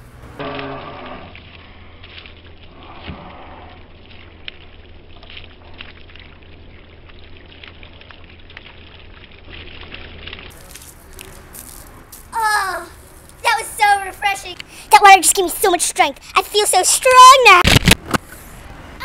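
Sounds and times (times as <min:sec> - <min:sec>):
water pouring and splashing: 0:00.4 - 0:17.7.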